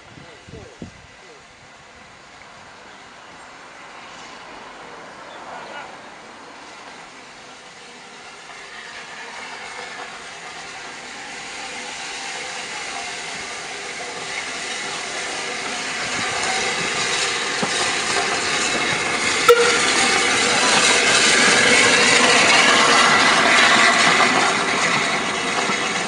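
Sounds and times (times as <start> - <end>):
steam hissing: 0.0 - 26.0
train wheels on rails: 0.0 - 26.0.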